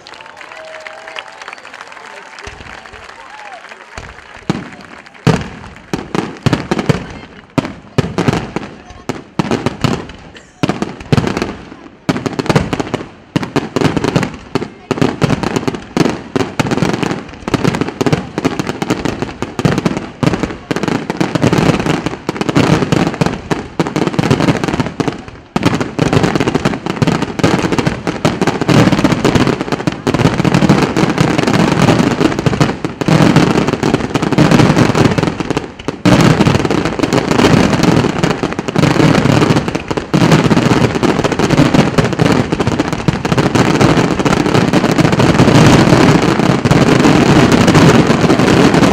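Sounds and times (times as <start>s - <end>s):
fireworks booming and crackling: 0.0s - 48.9s.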